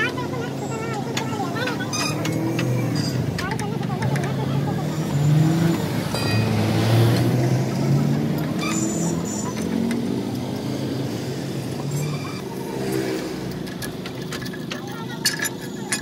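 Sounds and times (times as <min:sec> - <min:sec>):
vehicle engine running: 0:00.0 - 0:16.0
hand tools clinking on metal: 0:00.7 - 0:10.6, 0:11.7 - 0:16.0.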